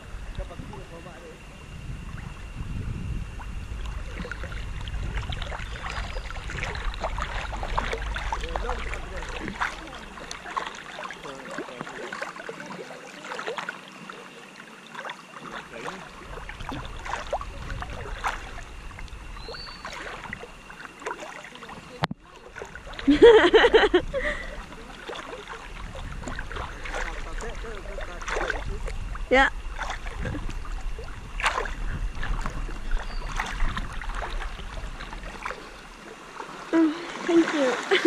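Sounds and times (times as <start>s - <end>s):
river water lapping and splashing: 0.0s - 38.0s.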